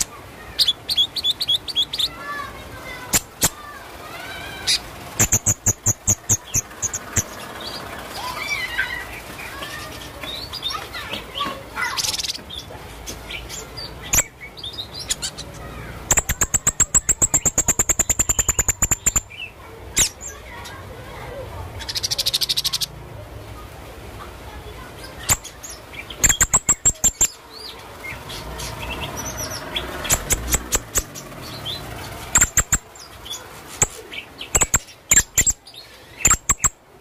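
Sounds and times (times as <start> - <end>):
bird song with chirps and whistles: 0.0 - 2.4, 4.5 - 20.8, 25.2 - 36.8
bird rattling trills: 0.0 - 12.5, 13.1 - 20.8, 25.2 - 27.4, 28.0 - 36.8.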